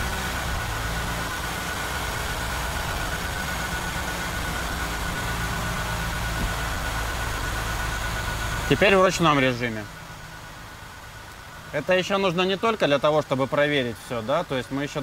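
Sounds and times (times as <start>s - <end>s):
car drivetrain whir and hum: 0.0s - 15.0s.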